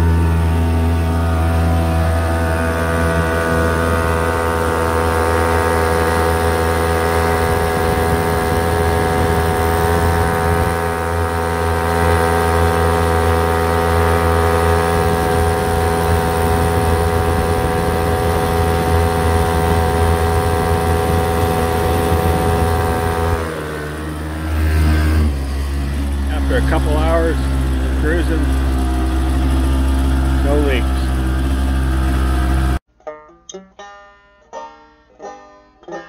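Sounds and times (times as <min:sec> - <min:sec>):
outboard motor running: 0:00.0 - 0:32.8.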